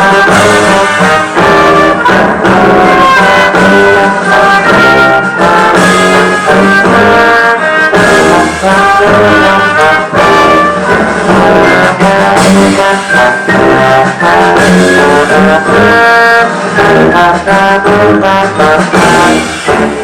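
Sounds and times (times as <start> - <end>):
brass band music: 0.0 - 20.0.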